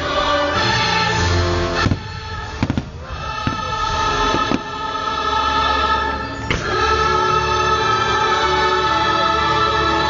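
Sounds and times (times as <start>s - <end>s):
choir singing over orchestra: 0.0s - 10.0s.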